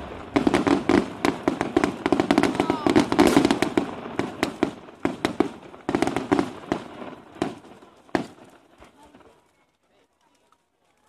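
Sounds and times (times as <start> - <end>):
fireworks banging and crackling: 0.0 - 11.0.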